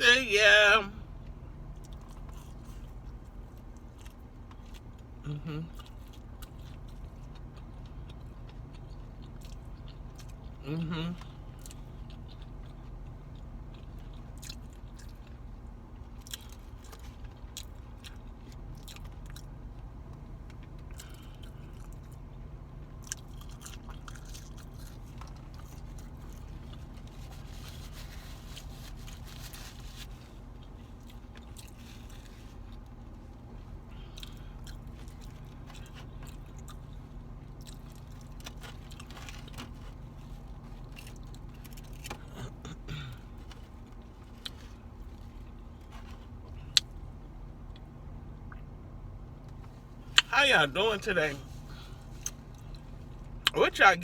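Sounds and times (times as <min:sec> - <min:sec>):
steady low hum: 0:00.0 - 0:54.0
chewing and crunching food: 0:01.1 - 0:50.3, 0:51.4 - 0:53.6.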